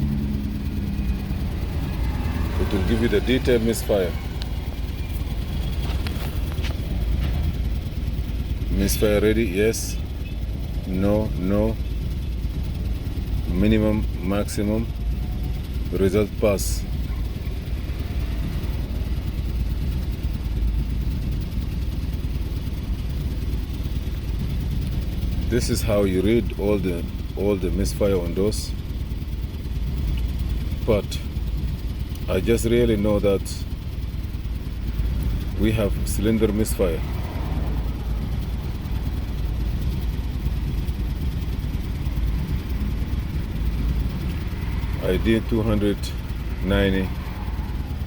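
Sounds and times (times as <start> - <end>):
car engine idling unevenly: 0.0 - 48.0.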